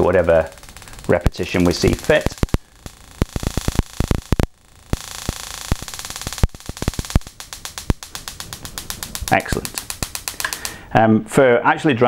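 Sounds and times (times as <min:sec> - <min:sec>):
hiss: 0:00.0 - 0:10.9
sharp snapping spark clicks: 0:00.0 - 0:10.9.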